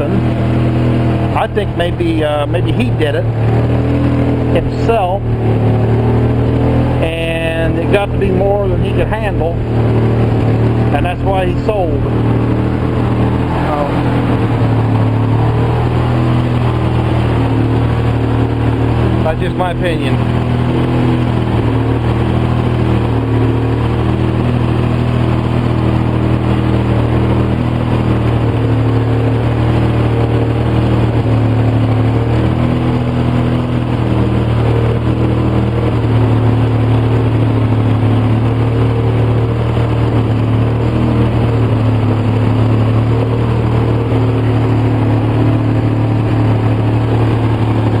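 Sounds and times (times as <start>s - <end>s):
engine idling rough: 0.0s - 48.0s.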